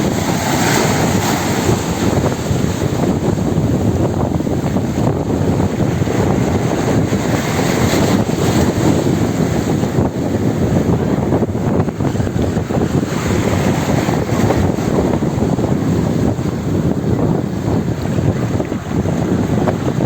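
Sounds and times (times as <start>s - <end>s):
sea noise: 0.0s - 20.0s
wind buffeting the microphone: 0.0s - 20.0s.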